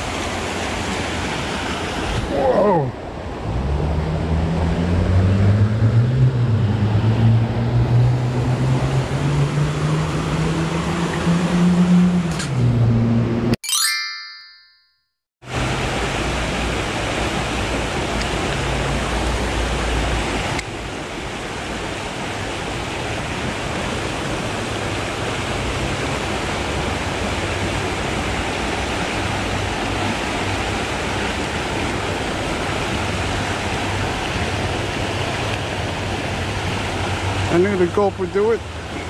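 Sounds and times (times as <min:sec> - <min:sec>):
river water rushing: 0:00.0 - 0:11.6, 0:15.5 - 0:39.0.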